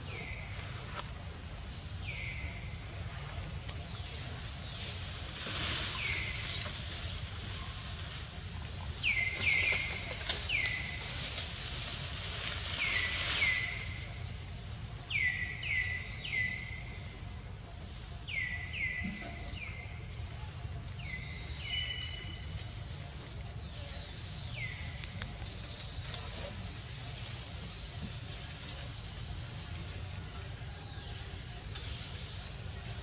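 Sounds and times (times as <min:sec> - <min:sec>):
forest background hiss: 0:00.0 - 0:33.0.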